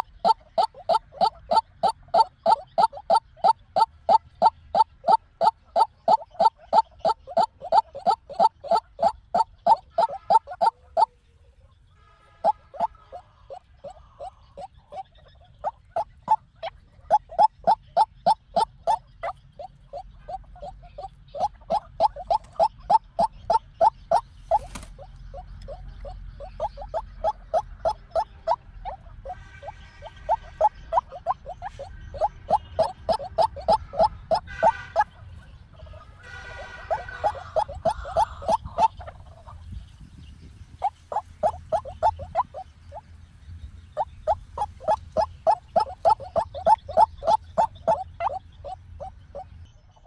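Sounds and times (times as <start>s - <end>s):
waterhen calling: 0.0s - 11.2s, 12.0s - 39.7s, 40.8s - 43.0s, 43.9s - 50.0s.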